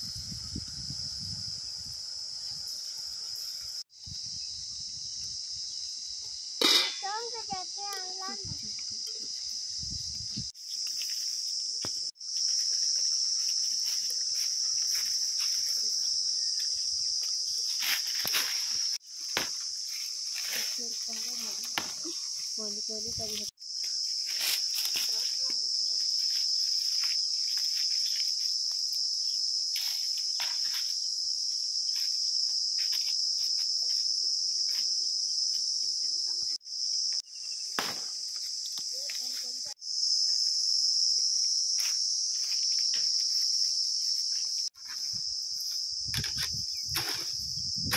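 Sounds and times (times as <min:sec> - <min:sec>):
insects shrilling: 0:00.0 - 0:47.9.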